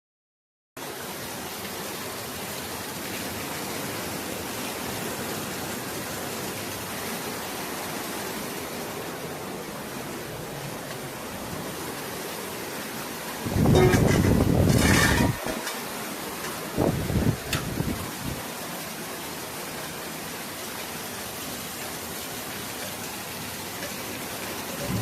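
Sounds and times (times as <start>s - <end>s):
strong wind and rain: 0.8s - 25.0s.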